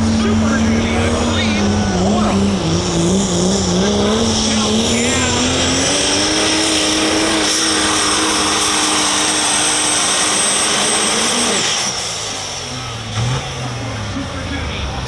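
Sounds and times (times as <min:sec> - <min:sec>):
diesel engine at full throttle: 0:00.0 - 0:15.0
turbocharger whistle: 0:00.9 - 0:14.5.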